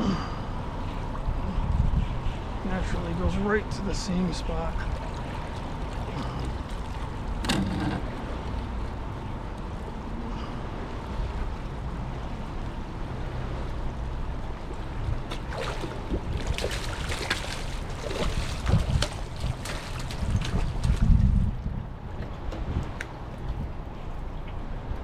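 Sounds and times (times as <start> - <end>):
water lapping: 0.0 - 24.9
wind: 0.0 - 25.0
water splashes: 2.2 - 23.8.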